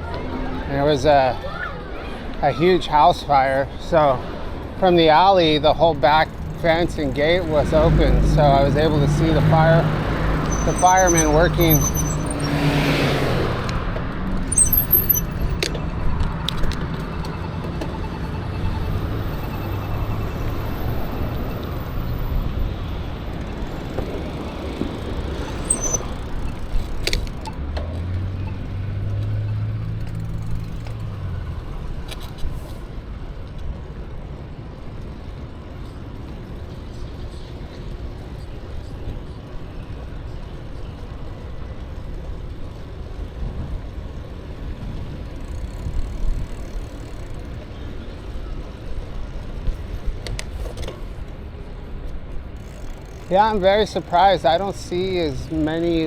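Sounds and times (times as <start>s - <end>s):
motor vehicles passing: 0.0s - 56.0s
wind and tyre noise: 0.0s - 56.0s.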